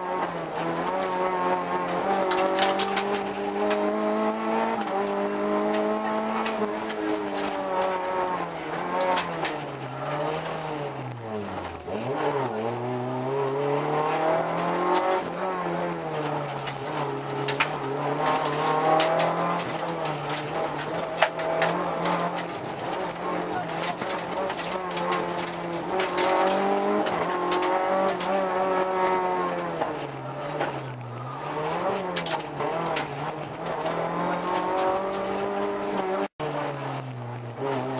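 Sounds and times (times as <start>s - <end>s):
rally car engine revving: 0.0s - 37.9s.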